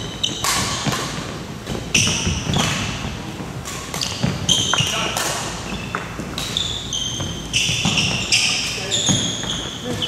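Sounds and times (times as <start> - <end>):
rackets hitting shuttlecock: 0.0 - 10.0
sneakers squeaking on court: 0.0 - 10.0.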